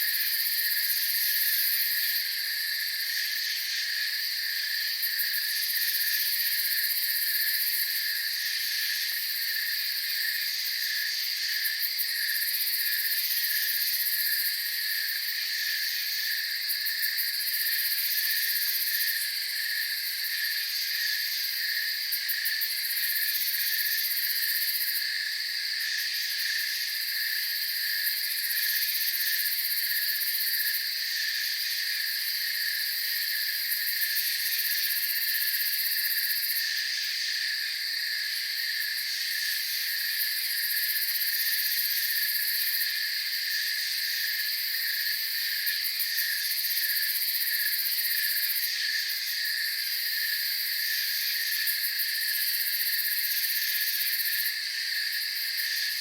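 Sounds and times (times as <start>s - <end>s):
crickets pulsing chirp: 0.0s - 56.0s.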